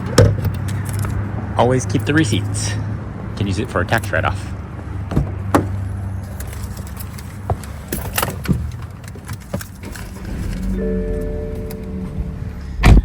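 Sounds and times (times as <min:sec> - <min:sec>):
car humming: 0:00.0 - 0:13.0.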